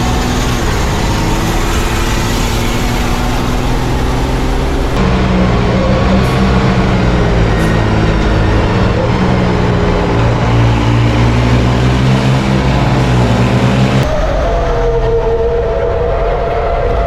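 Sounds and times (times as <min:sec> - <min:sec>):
racing truck engine droning: 0:00.0 - 0:17.0.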